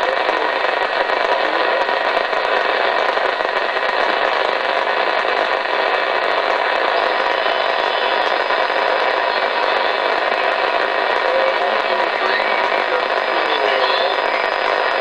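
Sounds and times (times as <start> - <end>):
faint steady tones: 0.0 - 15.0
radio static hissing: 0.0 - 15.0.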